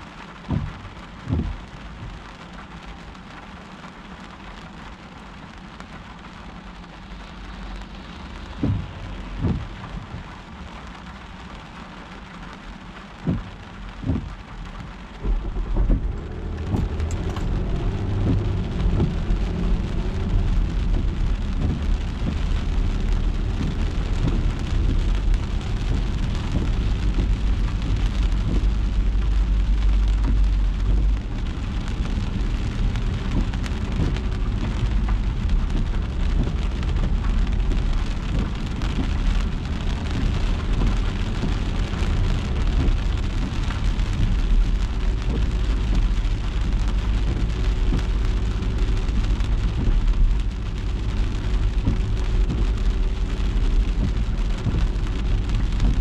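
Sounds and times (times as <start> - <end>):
car driving on wet road: 0.0 - 56.0
low rumble: 0.0 - 56.0
short low thumps: 0.3 - 2.4, 8.0 - 10.5, 13.1 - 56.0.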